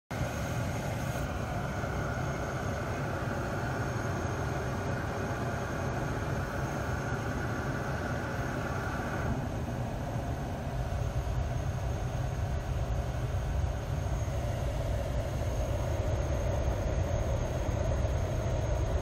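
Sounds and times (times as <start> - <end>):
air conditioning low hum: 0.1 - 19.0
air conditioning rushing: 0.1 - 19.0
faint high whine: 0.1 - 19.0.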